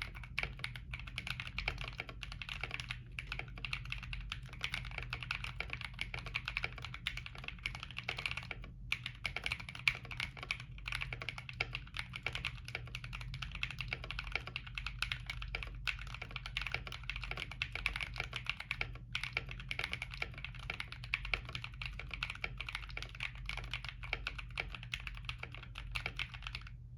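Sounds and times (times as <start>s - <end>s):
fast typing on mechanical keyboard: 0.0s - 26.8s.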